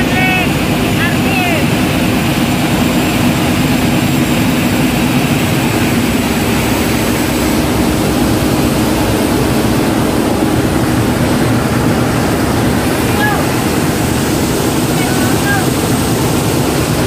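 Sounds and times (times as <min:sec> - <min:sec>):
engine-room machinery drone: 0:00.0 - 0:17.0.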